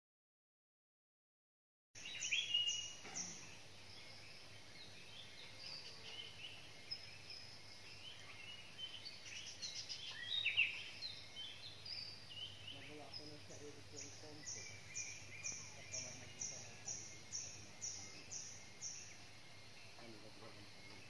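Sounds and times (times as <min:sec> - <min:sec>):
birds chirping and calling: 0:02.0 - 0:21.0.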